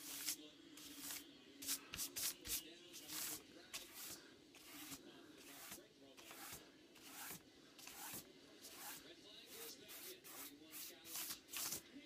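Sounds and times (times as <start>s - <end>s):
paintbrush scrubbing on board: 0.0s - 11.8s.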